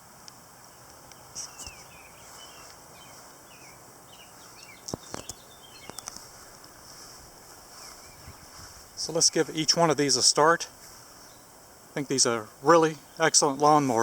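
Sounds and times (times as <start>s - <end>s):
steady outdoor hiss: 0.0s - 14.0s
small birds chirping: 0.3s - 14.0s.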